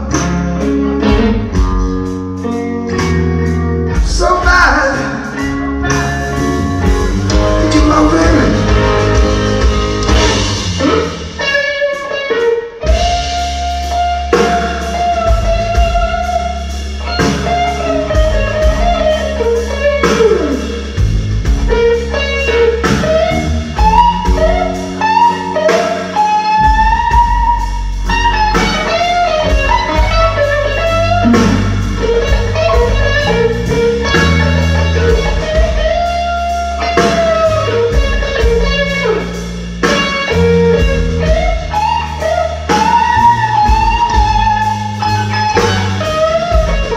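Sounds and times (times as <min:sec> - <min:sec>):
bass guitar: 0:00.0 - 0:46.9
drum kit steady beat: 0:00.0 - 0:46.9
electric guitar bending notes: 0:00.0 - 0:46.9.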